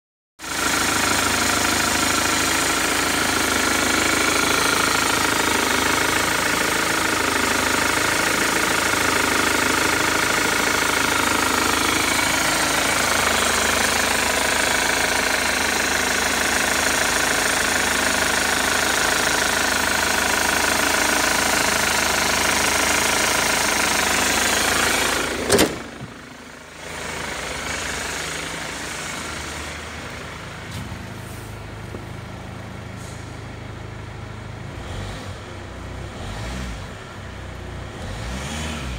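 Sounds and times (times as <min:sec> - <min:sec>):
diesel engine idling: 0:00.4 - 0:36.2.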